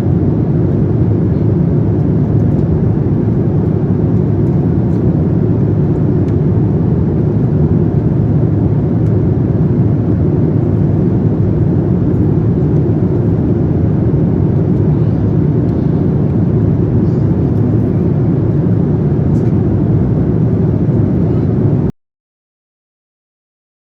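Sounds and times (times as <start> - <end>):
aircraft cabin engine rumble: 0.0 - 21.9.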